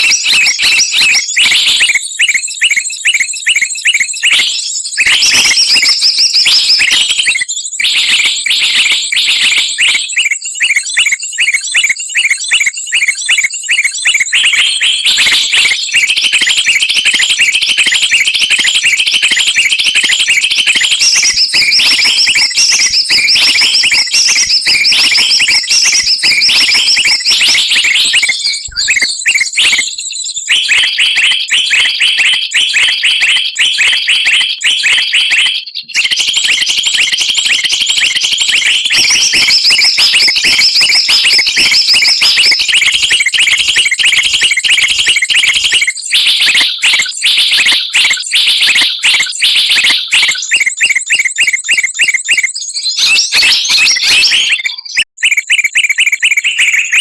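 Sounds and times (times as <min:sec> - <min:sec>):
songbirds chirping and whistling: 0:00.0 - 0:57.0.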